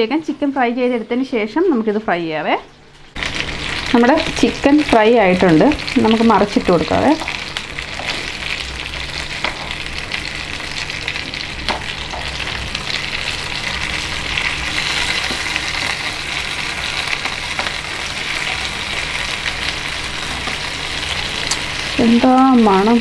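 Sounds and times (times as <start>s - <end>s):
chicken sizzling in oil: 3.0s - 23.0s.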